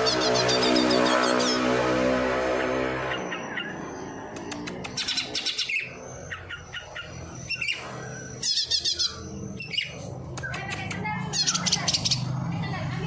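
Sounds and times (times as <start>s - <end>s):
songbird chirping and trilling: 0.0s - 13.0s.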